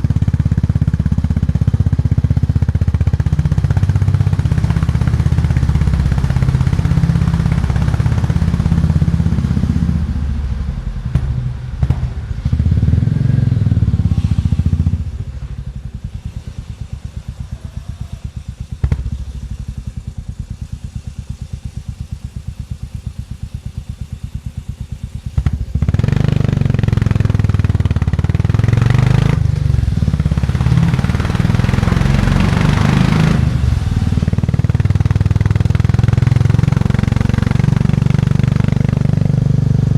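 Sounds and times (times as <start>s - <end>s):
motorcycle engine running: 0.0s - 39.9s
rushing hiss: 0.8s - 38.5s.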